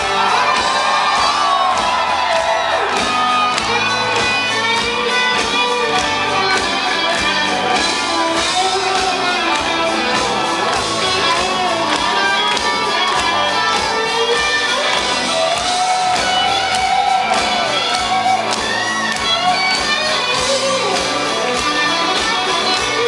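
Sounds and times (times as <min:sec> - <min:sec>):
bass guitar: 0:00.0 - 0:23.0
drums: 0:00.0 - 0:23.0
electric guitar: 0:00.0 - 0:23.0.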